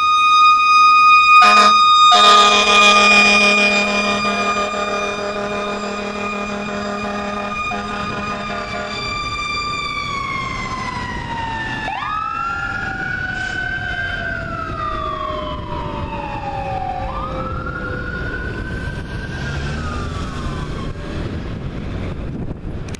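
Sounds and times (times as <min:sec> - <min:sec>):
electronic wail siren: 0:00.0 - 0:21.5
mechanical siren whine: 0:00.0 - 0:22.4
traffic noise: 0:00.0 - 0:22.9.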